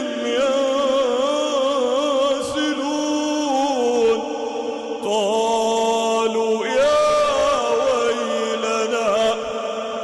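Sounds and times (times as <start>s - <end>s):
man chanting melodically: 0.0s - 10.0s.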